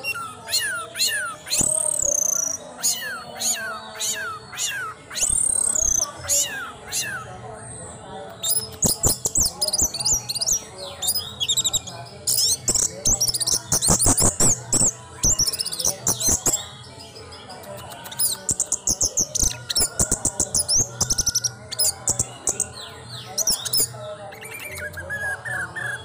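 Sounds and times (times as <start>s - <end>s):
bird singing chirps and trills: 0.0s - 26.0s.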